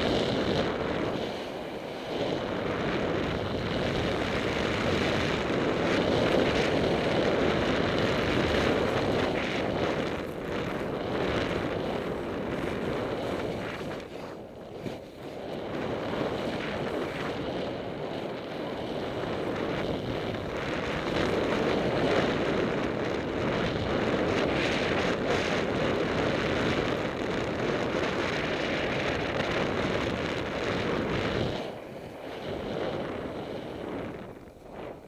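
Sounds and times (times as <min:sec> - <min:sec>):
skis sliding through snow: 0:00.0 - 0:35.0
wind rushing over microphone: 0:00.0 - 0:35.0.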